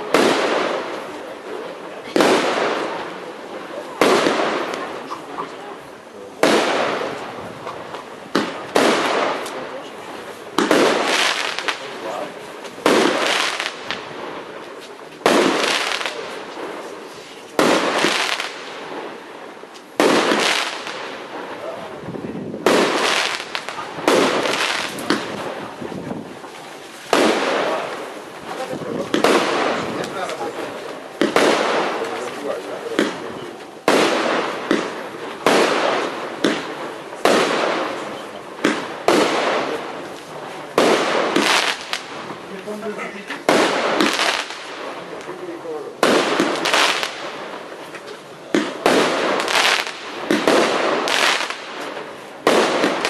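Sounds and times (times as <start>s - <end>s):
firework bangs with crackling: 0.0s - 53.0s.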